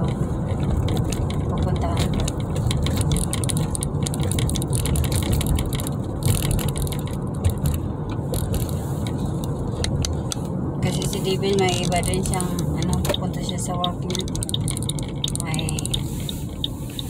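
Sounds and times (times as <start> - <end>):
car road and engine rumble: 0.0 - 17.0
small clicks and rattles: 0.0 - 17.0.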